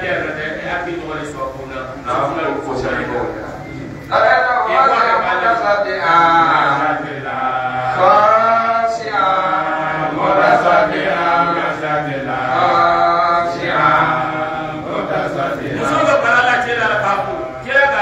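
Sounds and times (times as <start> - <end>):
man chanting a religious recitation: 0.0 - 18.0.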